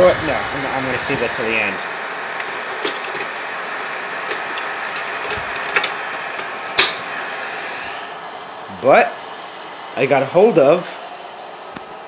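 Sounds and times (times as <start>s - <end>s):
projector fan motor running: 0.0s - 12.0s.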